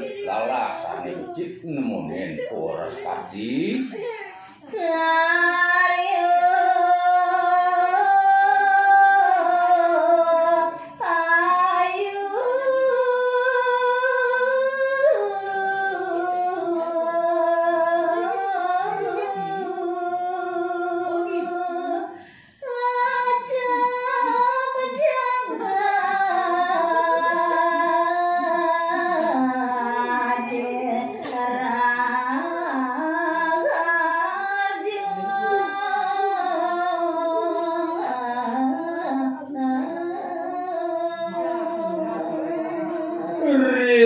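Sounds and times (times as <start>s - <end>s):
woman singing long held notes: 4.0s - 43.8s.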